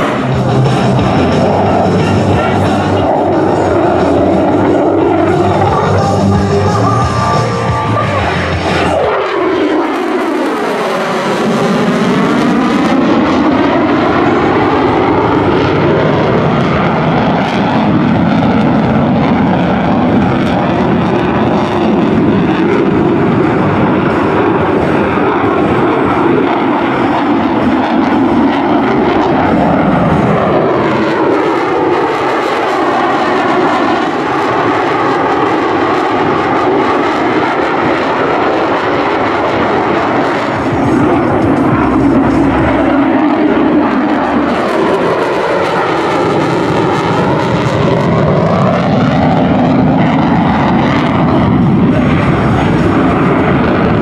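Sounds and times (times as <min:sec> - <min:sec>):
fighter jet roaring overhead: 0:00.0 - 0:54.0.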